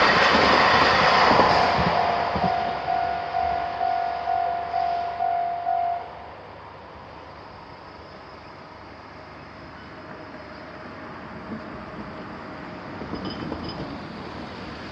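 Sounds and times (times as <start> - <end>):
train rumbling on track: 0.0 - 14.9.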